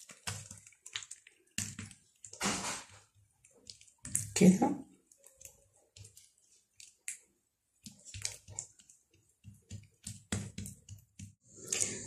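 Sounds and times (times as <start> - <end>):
hands patting dough: 0.0 - 12.0
wet squishes and small slaps: 0.0 - 12.0.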